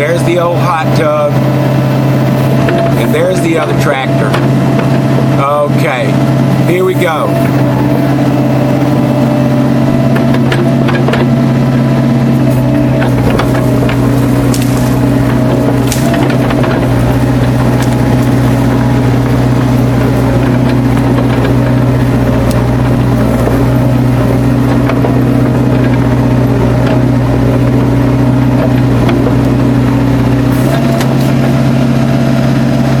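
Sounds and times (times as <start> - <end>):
diesel engine humming: 0.0 - 33.0.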